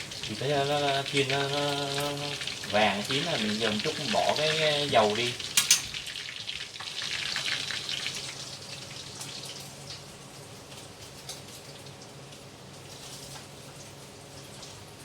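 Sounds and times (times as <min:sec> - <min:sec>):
meat frying in hot oil: 0:00.0 - 0:15.0.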